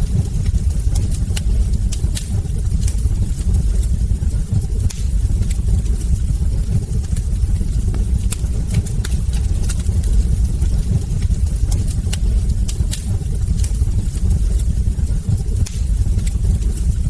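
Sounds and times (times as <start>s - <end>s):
fire crackles and pops: 0.0s - 17.0s
wood fire rumbling: 0.0s - 17.0s.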